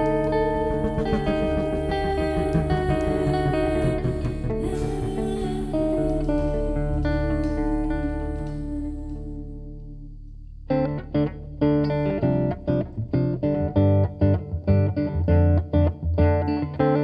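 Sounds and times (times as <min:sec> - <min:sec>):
electric bass low notes: 0:00.0 - 0:16.6
jazz electric guitar: 0:00.0 - 0:17.0.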